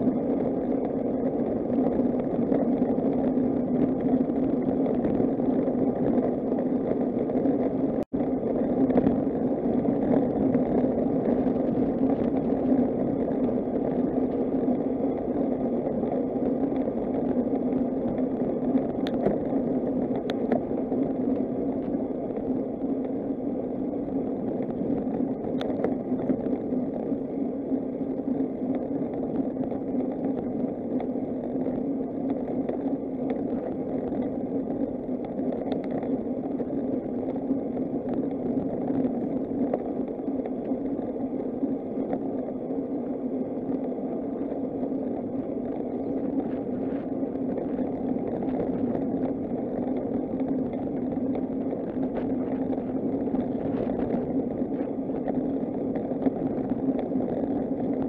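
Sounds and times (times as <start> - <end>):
bicycle tyre and road rumble: 0.0 - 58.0
wind rushing over microphone: 0.0 - 58.0.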